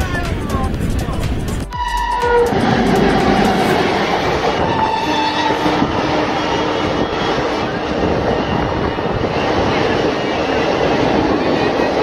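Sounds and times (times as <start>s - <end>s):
train coaches rushing by: 0.0s - 12.0s.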